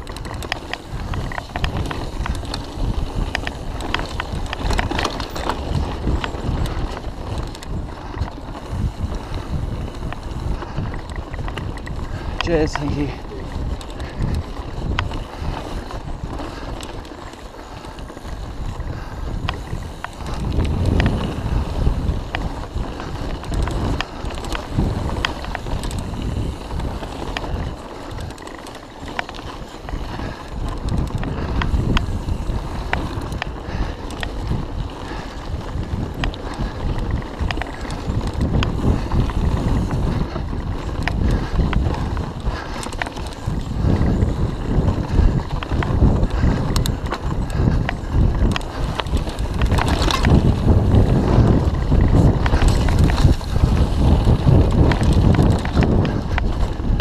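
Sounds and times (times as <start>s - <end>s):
bike rattling over bumps: 0.0s - 57.0s
bike tyre rumble: 0.0s - 57.0s
wind on microphone: 0.0s - 57.0s.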